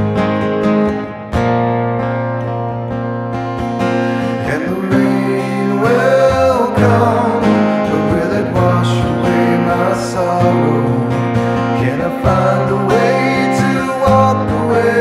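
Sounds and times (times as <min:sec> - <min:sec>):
acoustic guitar with reverb: 0:00.0 - 0:15.0.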